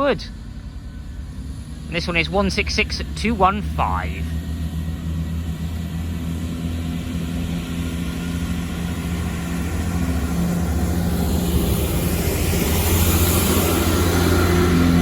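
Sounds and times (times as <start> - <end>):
train diesel engines running: 0.0 - 15.0.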